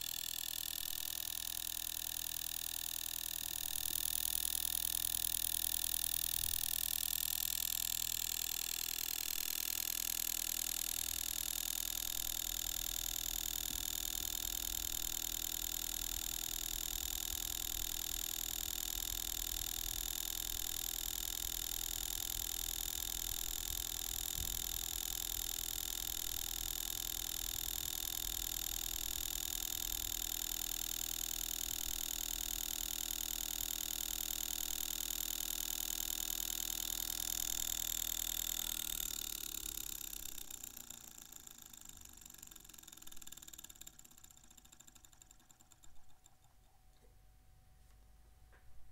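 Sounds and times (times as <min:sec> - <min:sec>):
rapid mechanical ticking: 0:00.0 - 0:46.9.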